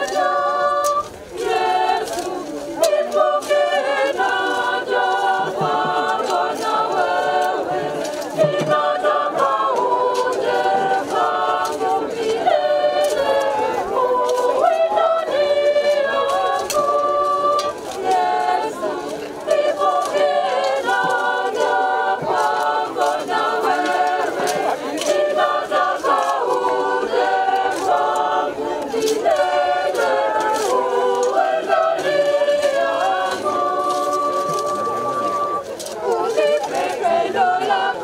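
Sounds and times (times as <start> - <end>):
group singing unaccompanied: 0.0 - 38.0.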